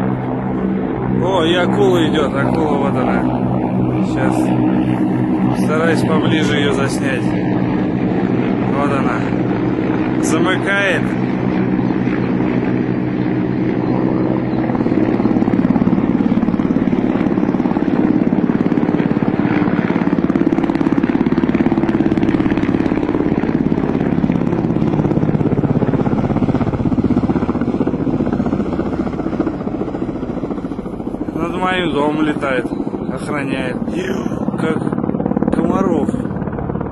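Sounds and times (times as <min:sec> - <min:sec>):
helicopter rotor beat and drone: 0:00.0 - 0:36.9.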